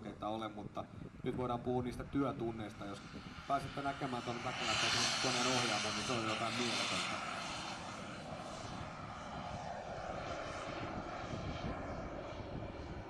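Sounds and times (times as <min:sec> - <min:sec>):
model jet engine rushing: 0:00.6 - 0:13.0.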